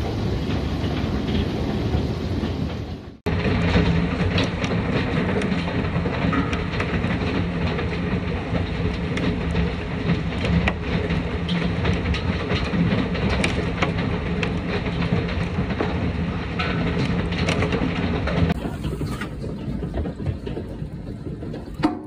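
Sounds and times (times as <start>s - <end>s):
heavy hail rattling: 0.0s - 22.0s.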